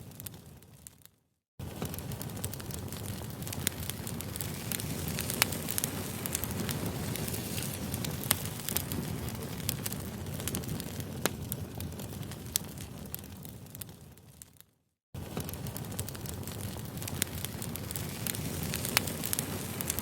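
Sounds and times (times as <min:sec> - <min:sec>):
wood crackling and popping: 0:00.0 - 0:20.0
low rush of flame: 0:01.6 - 0:14.3, 0:15.2 - 0:20.0.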